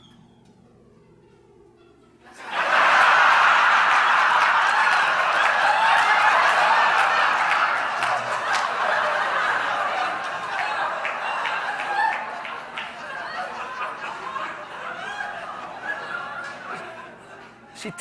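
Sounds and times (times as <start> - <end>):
audience laughing: 2.3 - 18.0.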